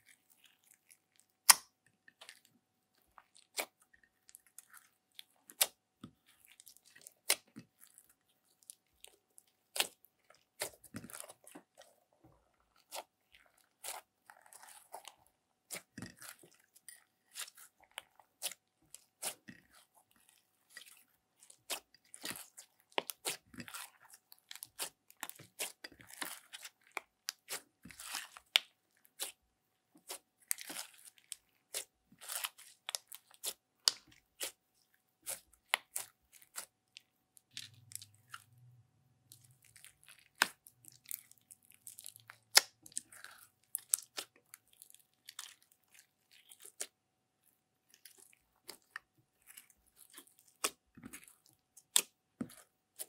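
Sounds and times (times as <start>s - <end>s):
slime squelching by hand: 0.0s - 53.0s.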